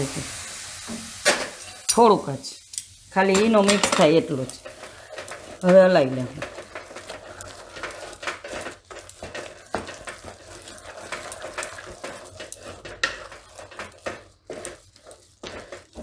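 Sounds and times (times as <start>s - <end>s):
wooden spatula scraping metal pot: 3.1s - 16.0s.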